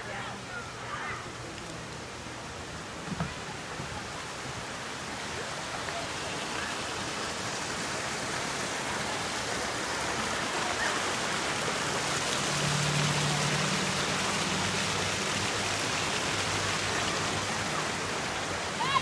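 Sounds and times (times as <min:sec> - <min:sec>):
water running over stones: 0:00.0 - 0:19.0.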